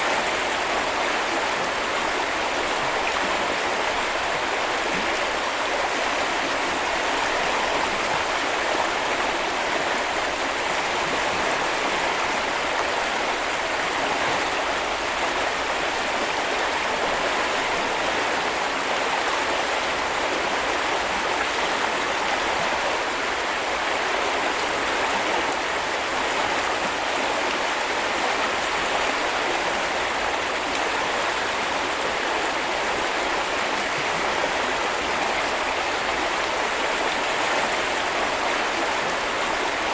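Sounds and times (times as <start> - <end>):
brook flowing over stones: 0.0 - 39.9.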